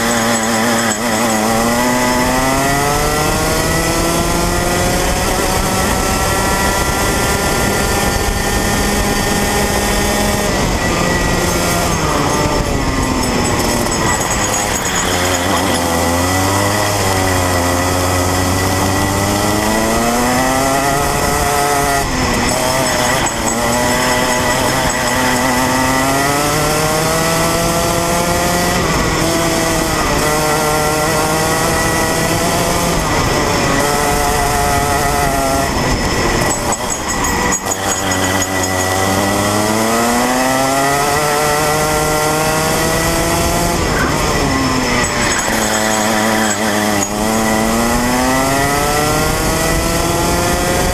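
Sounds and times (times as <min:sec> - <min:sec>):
kart engine revving: 0:00.0 - 0:50.9.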